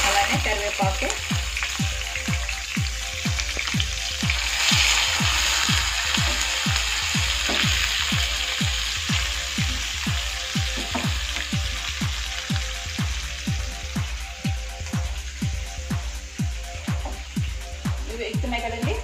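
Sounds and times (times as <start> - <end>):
background music with steady beat: 0.0 - 19.0
onions sizzling in hot oil: 0.0 - 19.0.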